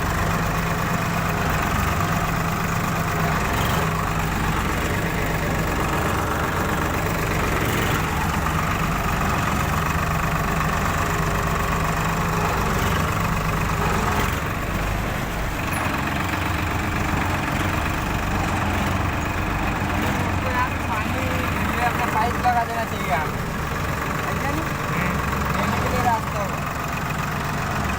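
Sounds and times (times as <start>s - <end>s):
combine harvester engine droning: 0.0s - 27.9s.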